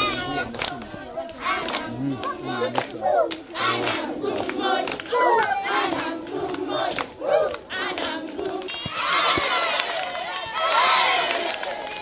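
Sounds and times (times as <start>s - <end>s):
girls singing and chanting: 0.0s - 12.0s
hand claps: 0.5s - 0.9s, 1.6s - 12.0s.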